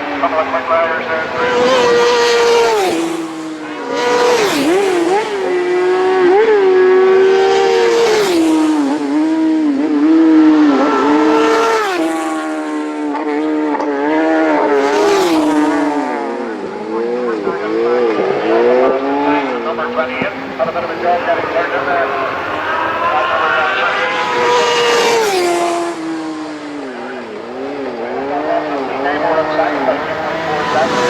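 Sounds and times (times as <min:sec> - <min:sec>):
racing motorcycle engines revving: 0:00.0 - 0:31.0.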